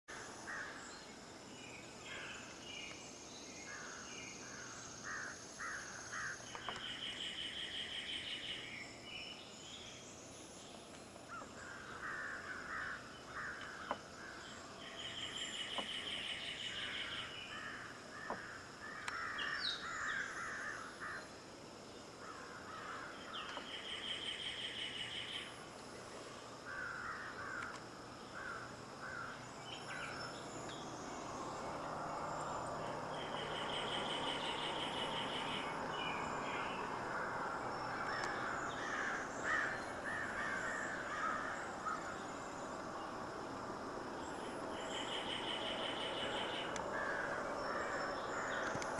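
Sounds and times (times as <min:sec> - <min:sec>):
low insect chirping: 0:00.1 - 0:48.9
pulsing insect trills: 0:00.1 - 0:48.9
steady high insect trill: 0:00.1 - 0:48.9.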